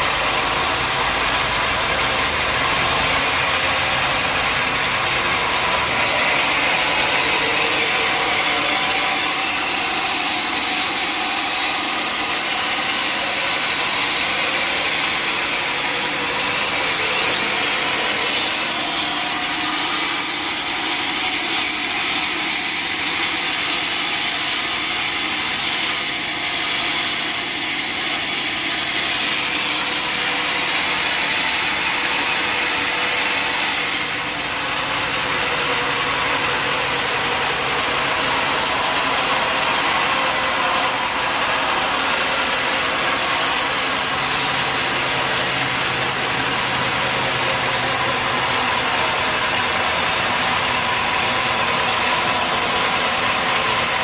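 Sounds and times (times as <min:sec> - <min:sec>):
sawmill blade cutting log: 0:00.0 - 0:54.0.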